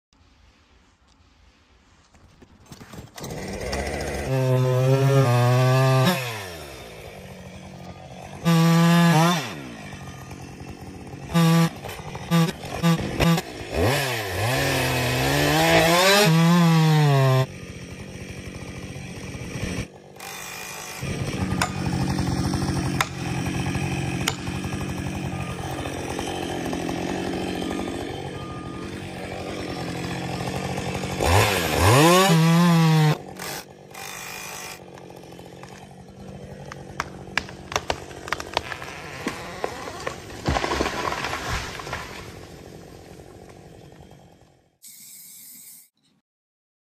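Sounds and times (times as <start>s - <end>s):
chainsaw revving and cutting: 3.1s - 44.8s.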